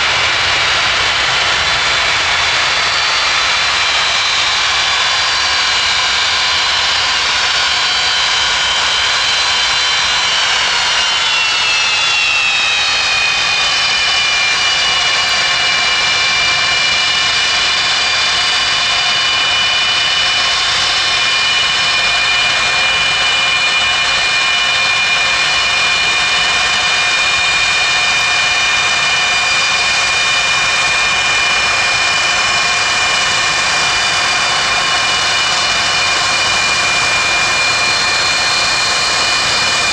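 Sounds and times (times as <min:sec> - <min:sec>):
high engine whine: 0:00.0 - 0:39.9
turbine engine roar: 0:00.0 - 0:39.9.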